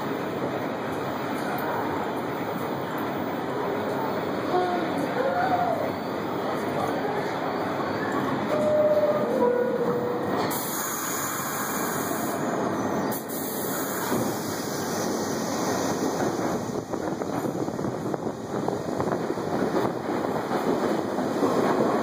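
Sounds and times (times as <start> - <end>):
subway train running: 0.0 - 22.0.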